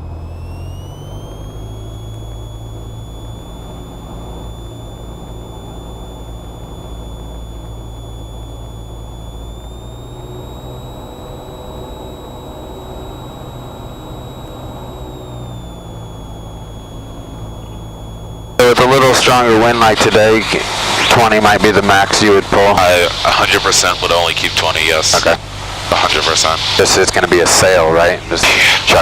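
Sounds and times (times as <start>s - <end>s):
airplane engine and propeller droning: 0.0s - 29.0s
thin high whine: 0.0s - 29.0s.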